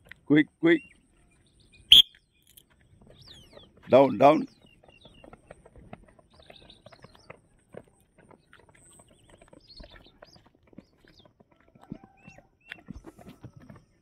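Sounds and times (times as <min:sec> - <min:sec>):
footsteps jogging on gritty rock: 0:00.9 - 0:14.0.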